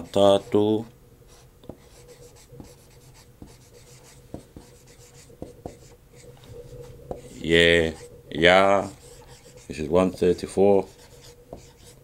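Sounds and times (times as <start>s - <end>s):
marker scratching on whiteboard: 0.0s - 12.0s.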